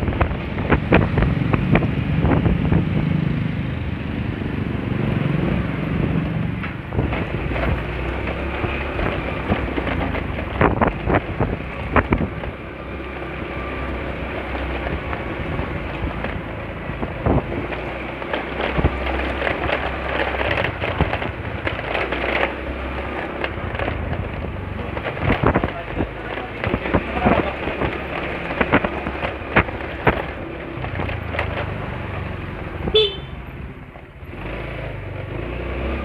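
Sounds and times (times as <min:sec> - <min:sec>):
wind rushing over microphone: 0:00.0 - 0:13.8, 0:14.8 - 0:22.3, 0:23.4 - 0:31.3
scooter engine and road rumble: 0:00.0 - 0:36.0.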